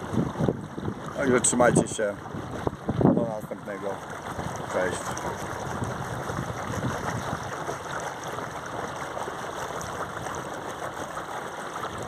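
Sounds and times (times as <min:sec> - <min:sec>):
water rushing along hull: 0:00.0 - 0:12.0.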